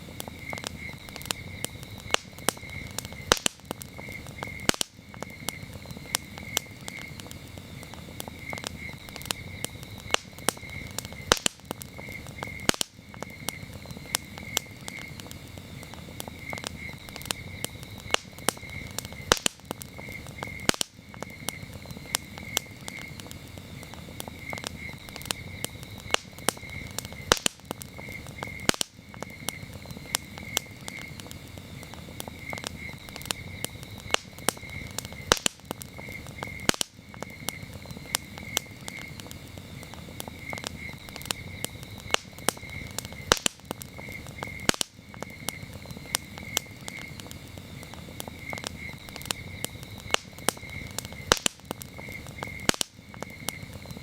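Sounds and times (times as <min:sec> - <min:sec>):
campfire crackling and popping: 0:00.0 - 0:54.0
crickets chirping: 0:00.0 - 0:54.0.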